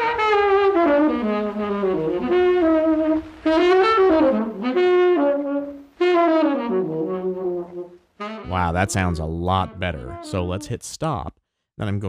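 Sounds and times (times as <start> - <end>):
saxophone melody: 0.0 - 10.8.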